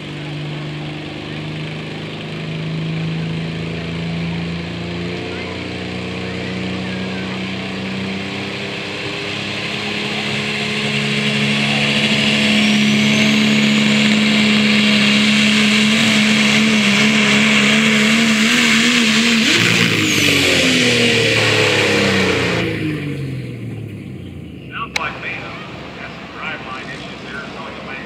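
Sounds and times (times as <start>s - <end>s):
diesel truck engine droning: 0.0s - 28.0s.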